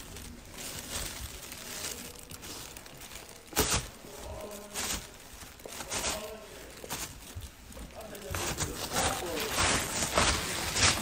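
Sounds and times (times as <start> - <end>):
jacket rustling on microphone: 0.0 - 11.0.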